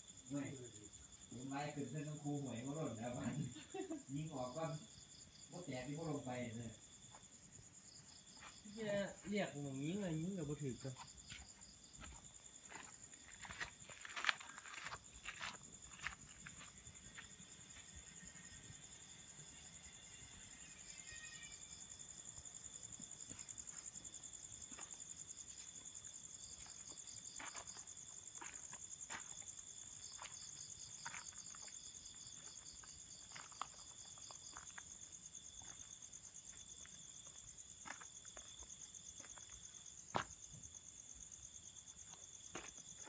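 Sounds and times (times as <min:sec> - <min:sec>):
high insect trill: 0:00.0 - 0:43.0
low chirping cricket trill: 0:00.0 - 0:43.0.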